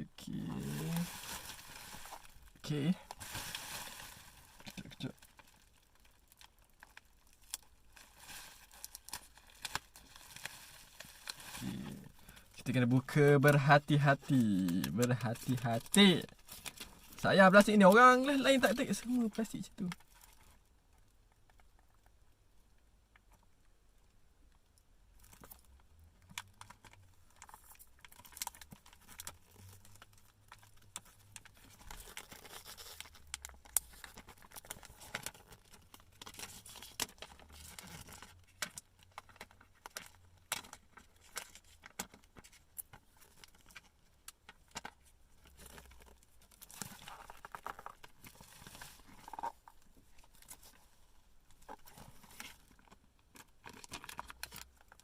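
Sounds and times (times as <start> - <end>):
plastic wrap crinkling tearing: 0.3 - 20.6, 25.2 - 50.9, 51.5 - 55.0.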